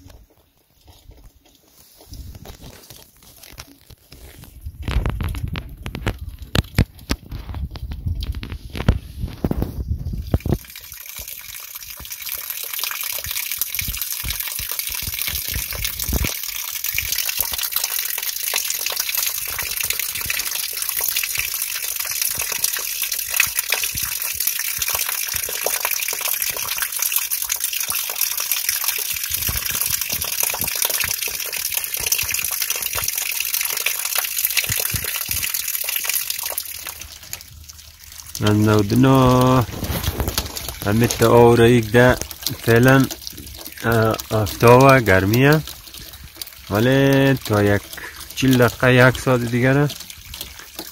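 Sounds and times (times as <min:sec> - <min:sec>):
water gushing and gurgling: 0:01.7 - 0:50.9.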